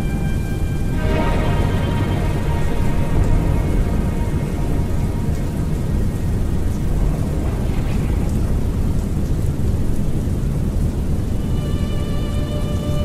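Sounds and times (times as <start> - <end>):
held musical notes: 0.0 - 9.0, 11.1 - 13.0
steady rain: 0.0 - 13.0
thunder rumbling: 0.0 - 13.0.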